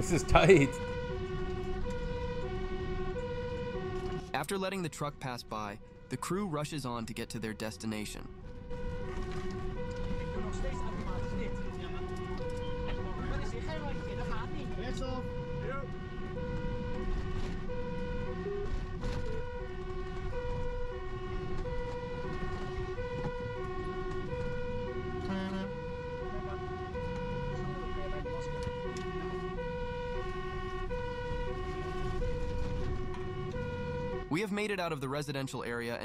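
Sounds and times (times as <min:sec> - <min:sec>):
fire truck two-tone siren: 0:00.0 - 0:34.6
truck engine rumbling: 0:00.0 - 0:36.0.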